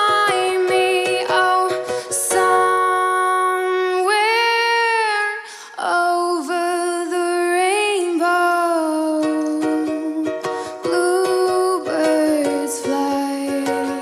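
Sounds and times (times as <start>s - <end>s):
strummed ukulele: 0.0s - 5.4s, 6.1s - 14.0s
woman singing: 0.0s - 14.0s.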